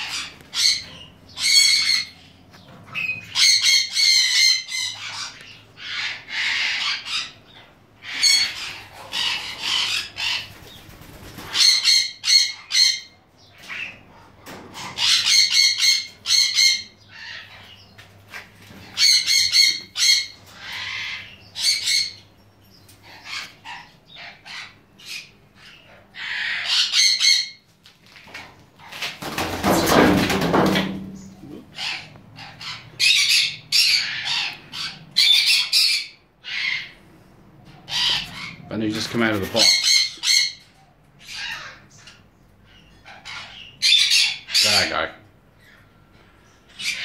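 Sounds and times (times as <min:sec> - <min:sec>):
parrots squawking: 0:00.0 - 0:22.3, 0:23.0 - 0:27.6, 0:31.1 - 0:46.0, 0:46.7 - 0:47.0.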